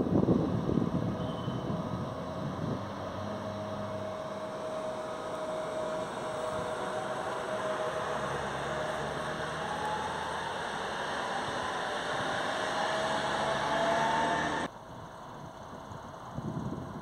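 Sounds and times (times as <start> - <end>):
high electric whine: 0.0 - 14.7
electric train running noise: 0.0 - 17.0.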